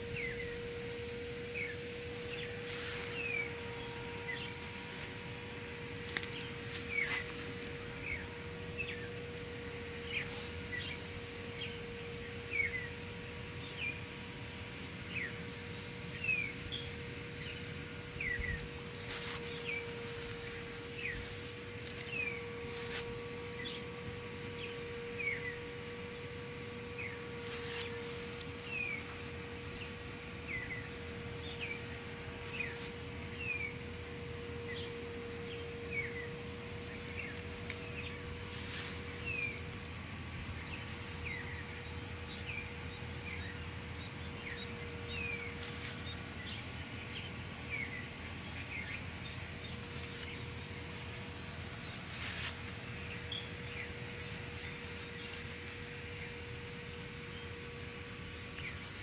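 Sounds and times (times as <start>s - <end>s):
small birds chirping: 0.0s - 59.0s
steady low hum: 0.0s - 59.0s.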